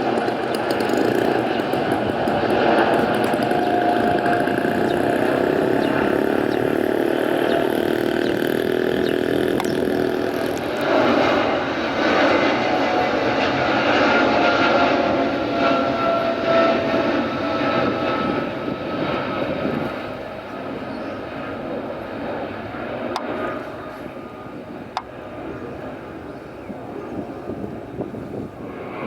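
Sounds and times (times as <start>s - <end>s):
jet engines roaring at takeoff: 0.0s - 29.0s.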